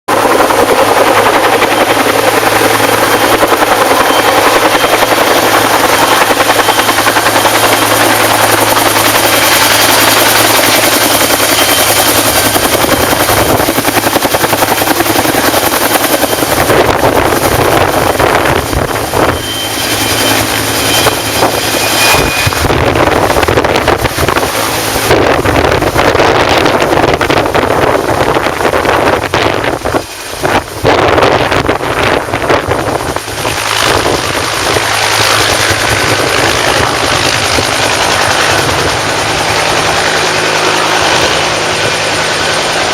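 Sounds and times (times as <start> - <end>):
helicopter rotor chop: 0.1 - 42.9
helicopter turbine noise: 0.1 - 42.9.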